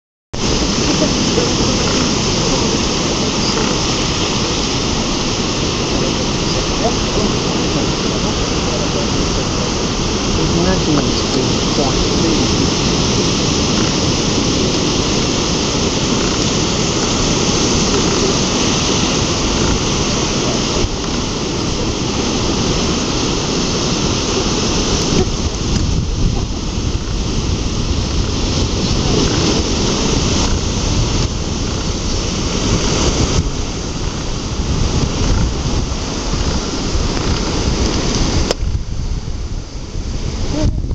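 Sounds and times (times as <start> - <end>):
ocean surf on rocks: 0.4 - 40.9.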